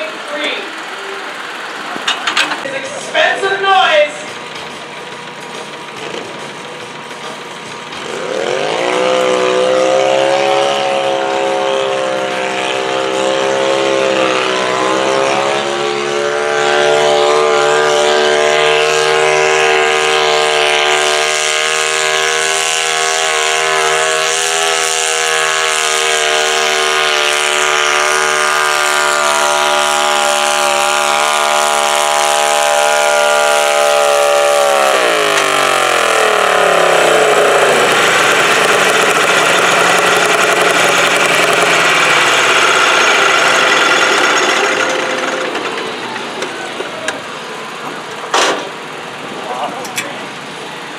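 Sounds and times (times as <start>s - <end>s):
tractor engine revving under load: 4.2s - 50.9s.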